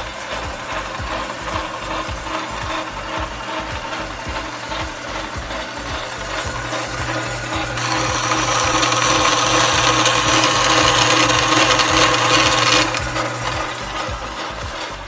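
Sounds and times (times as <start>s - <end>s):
bandsaw cutting: 0.0s - 15.0s.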